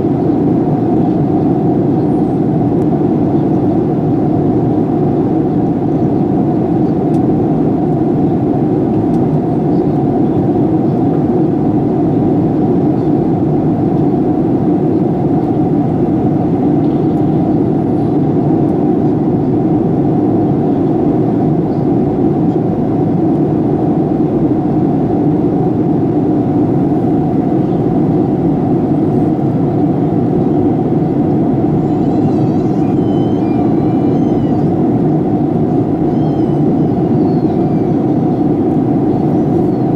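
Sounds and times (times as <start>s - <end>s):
jet engine drone: 0.0s - 39.9s.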